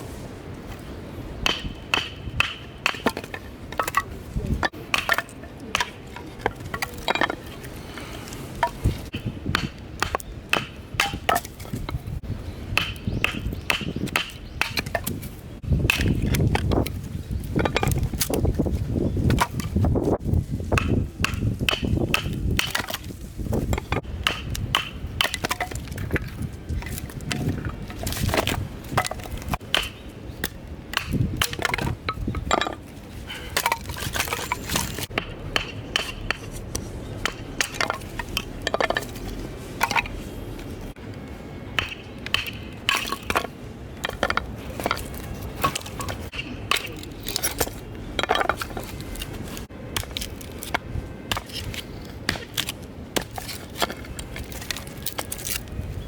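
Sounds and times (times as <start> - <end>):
firewood knocking and cracking: 1.4 - 40.1, 41.8 - 55.7.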